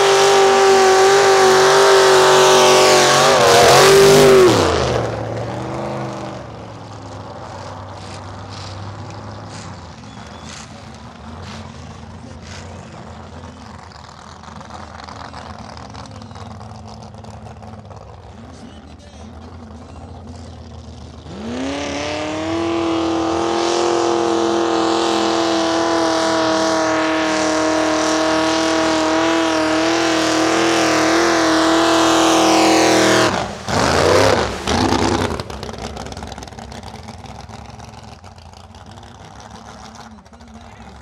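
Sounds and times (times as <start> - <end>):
vehicle engine revving: 0.0 - 41.0.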